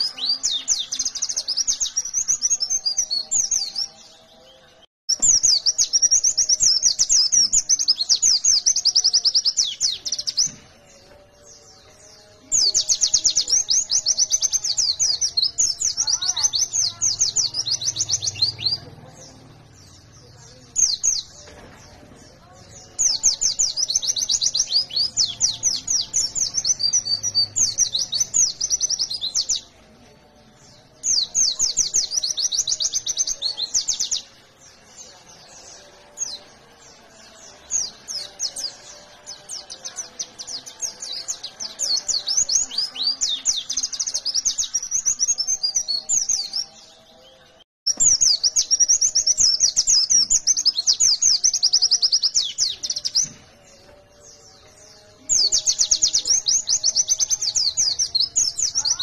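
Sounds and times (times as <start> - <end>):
bird chirping trills: 0.0 - 59.0.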